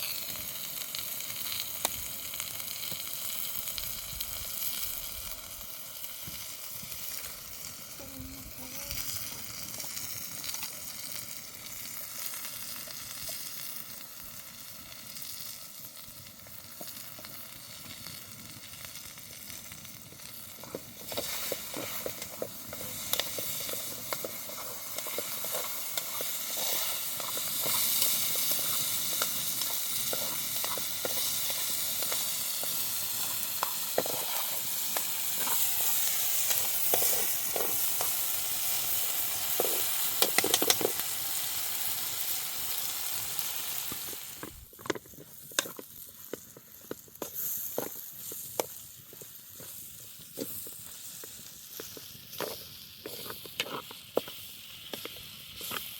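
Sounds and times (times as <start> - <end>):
food sizzling in hot oil: 0.0 - 55.9
oil crackling and spattering: 0.0 - 55.9.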